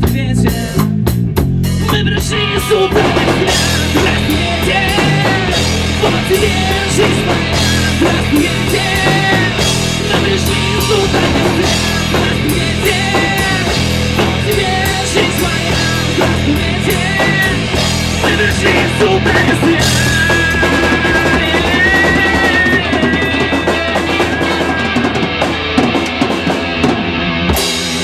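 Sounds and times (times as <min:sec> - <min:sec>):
driving drum kit: 0:00.0 - 0:28.0
rock music: 0:00.0 - 0:28.0
high held melody line: 0:01.8 - 0:28.0.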